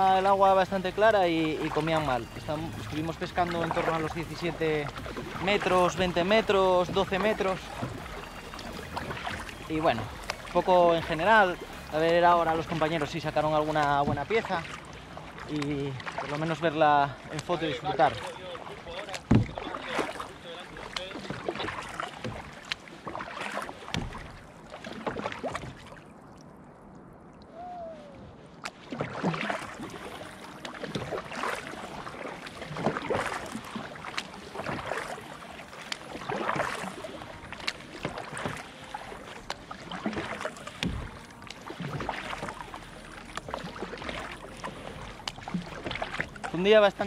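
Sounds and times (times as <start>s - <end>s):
paddle splashing water: 0.0s - 47.0s.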